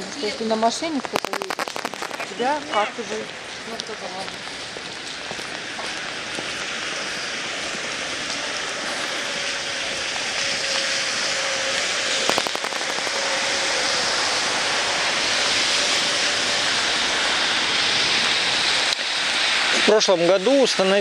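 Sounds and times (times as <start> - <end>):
rain hiss: 0.0 - 21.0
traffic on wet street: 0.0 - 21.0.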